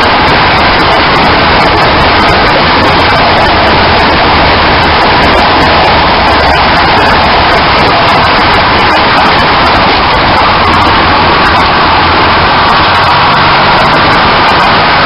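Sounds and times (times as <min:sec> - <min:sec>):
tyre and road noise: 0:00.0 - 0:15.0
wind on microphone: 0:00.0 - 0:15.0.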